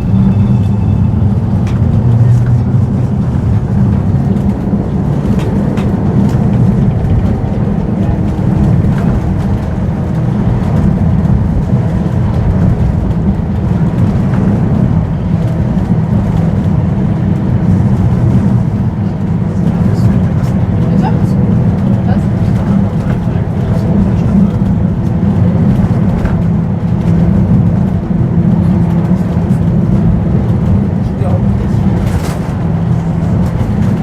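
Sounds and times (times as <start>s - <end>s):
tram rumbling on rails: 0.0s - 34.0s.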